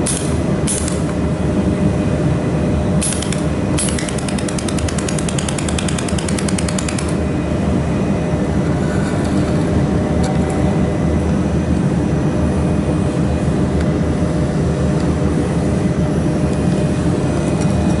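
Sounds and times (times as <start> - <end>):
welding machine hum: 0.0 - 18.0.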